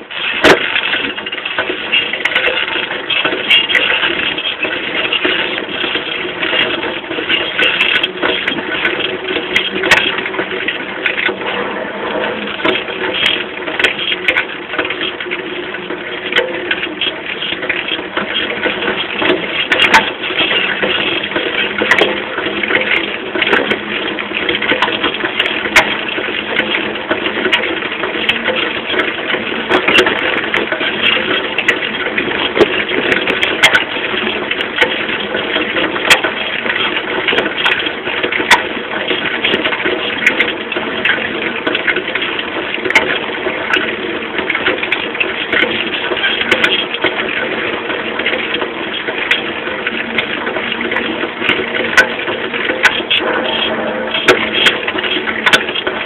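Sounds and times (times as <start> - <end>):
rear wheel clicks and rattles: 0.0 - 56.0.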